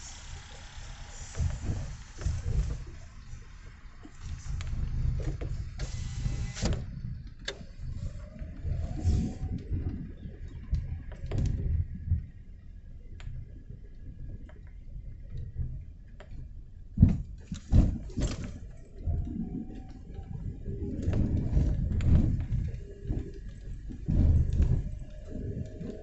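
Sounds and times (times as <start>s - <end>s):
rumble of vehicle engines: 0.0s - 26.0s.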